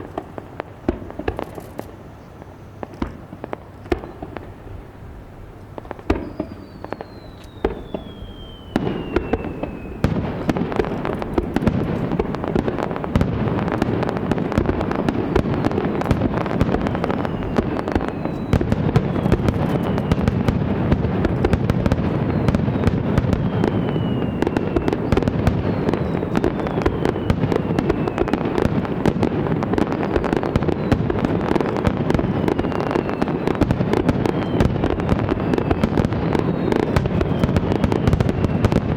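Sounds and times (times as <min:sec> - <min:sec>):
fireworks bursting and crackling: 0:00.0 - 0:38.9
falling firework whistles: 0:05.8 - 0:38.9.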